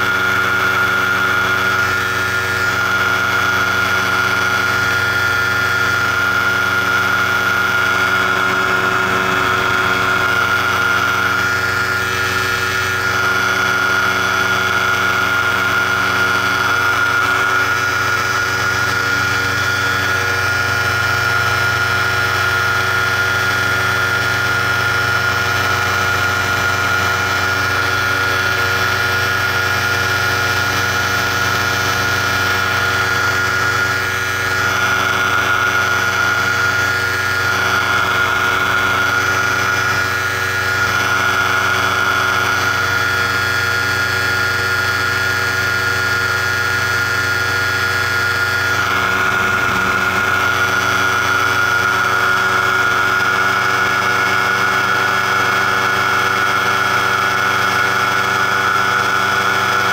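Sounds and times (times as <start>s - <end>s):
paramotor engine and propeller running: 0.0s - 59.9s.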